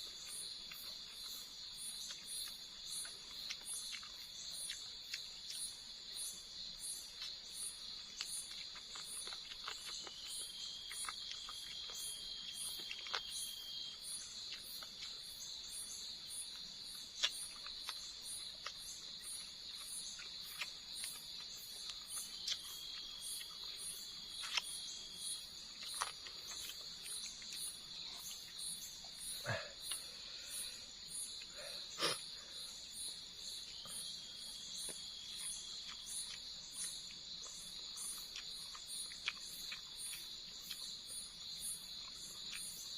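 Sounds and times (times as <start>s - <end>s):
crickets chirping: 0.0s - 42.9s
thin insect trill: 0.0s - 42.9s.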